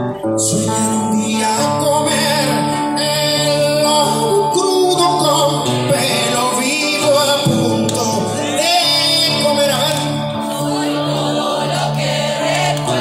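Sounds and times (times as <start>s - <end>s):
man singing: 0.0s - 11.8s
acoustic guitar: 0.0s - 13.0s.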